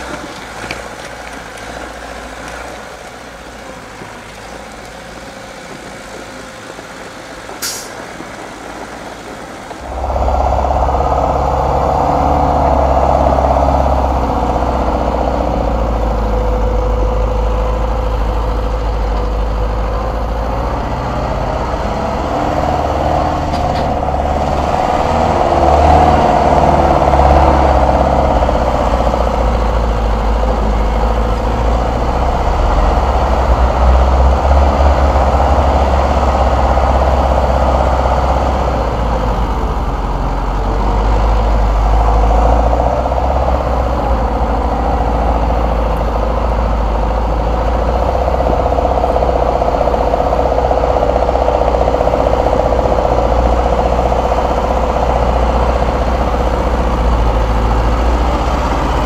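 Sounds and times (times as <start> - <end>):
diesel truck engine at low revs: 0.0 - 59.0.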